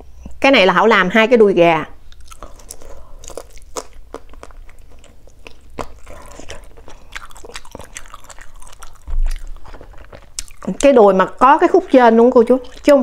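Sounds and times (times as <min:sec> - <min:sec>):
person chewing crunchy food: 0:02.0 - 0:13.0.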